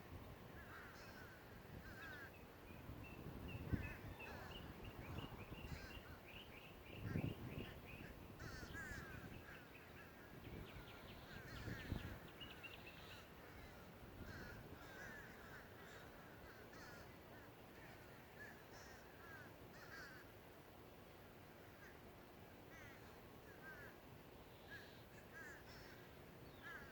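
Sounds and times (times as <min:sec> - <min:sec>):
distant crows cawing: 0:00.5 - 0:02.8, 0:03.6 - 0:20.5, 0:21.6 - 0:26.9.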